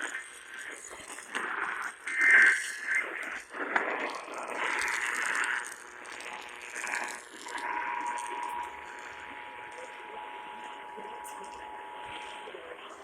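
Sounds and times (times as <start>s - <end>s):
screechy digital data bursts: 0.0s - 12.4s
noisy radio signal: 0.0s - 13.0s.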